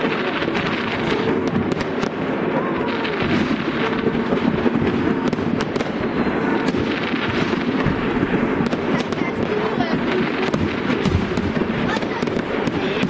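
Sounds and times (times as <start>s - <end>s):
fireworks crackling: 0.0s - 13.0s
fireworks cracks and bangs: 0.0s - 13.0s.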